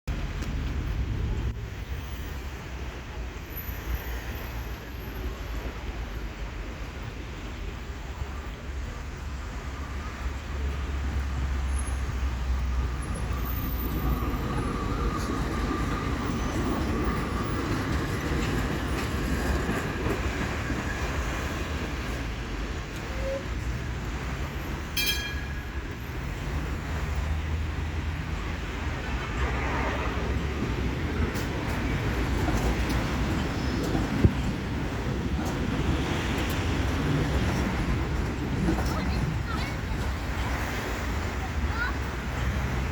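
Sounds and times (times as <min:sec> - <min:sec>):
tram rumbling on track: 0:00.1 - 0:42.9.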